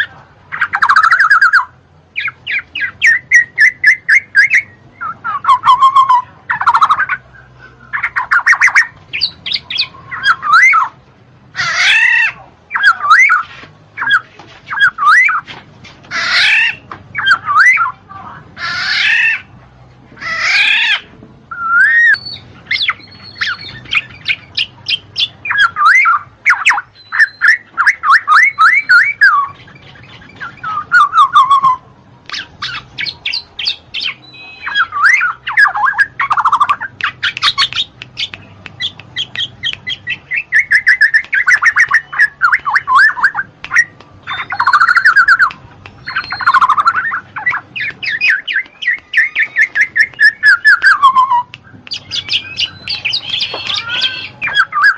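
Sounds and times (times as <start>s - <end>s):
bird singing chirps and whistles: 0.5s - 7.2s, 7.9s - 11.0s, 11.8s - 15.4s, 16.2s - 18.0s, 20.5s - 54.9s.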